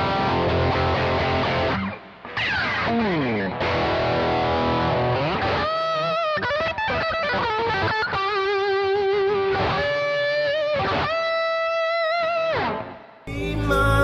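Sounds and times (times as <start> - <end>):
electric guitar lead line: 0.0 - 14.0.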